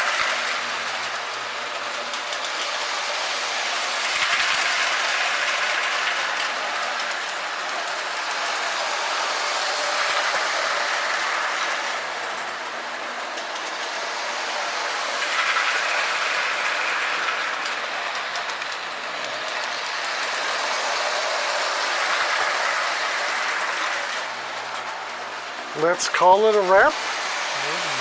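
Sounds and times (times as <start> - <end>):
toy train rolling on track: 0.0 - 28.0.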